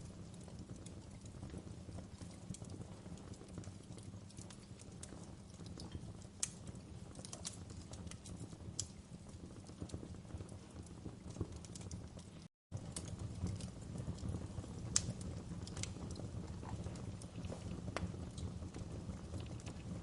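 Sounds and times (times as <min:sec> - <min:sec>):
logs crackling and popping: 0:00.0 - 0:20.0
rumble of fire flames: 0:00.0 - 0:20.0.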